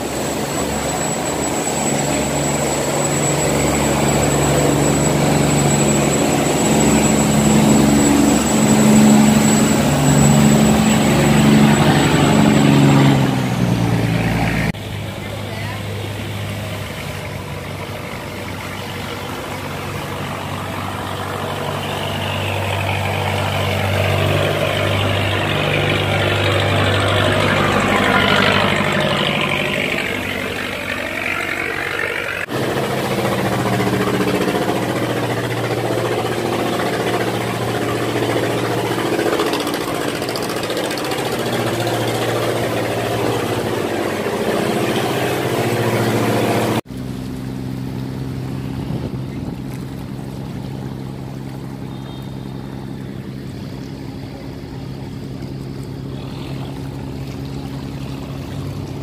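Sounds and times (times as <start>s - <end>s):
boat engines running: 0.0s - 59.0s
rushing water: 0.0s - 59.0s.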